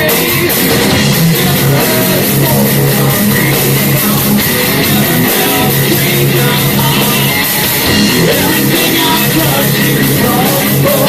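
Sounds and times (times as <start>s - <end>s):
bass guitar: 0.0s - 11.0s
distorted electric guitars: 0.0s - 11.0s
drums: 0.0s - 11.0s.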